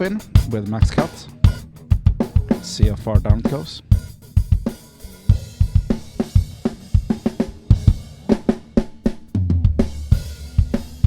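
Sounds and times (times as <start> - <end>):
rock drum kit beat: 0.0 - 11.0.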